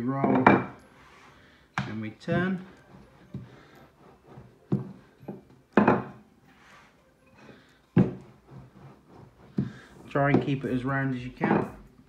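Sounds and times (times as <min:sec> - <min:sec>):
rolling pin rolling pastry: 0:00.0 - 0:12.0.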